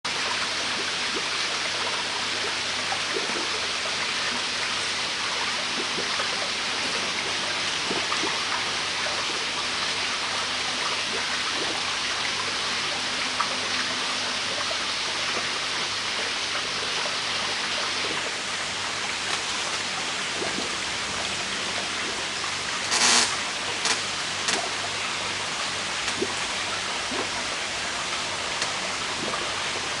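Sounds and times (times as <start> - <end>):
running water hiss: 0.1 - 30.0.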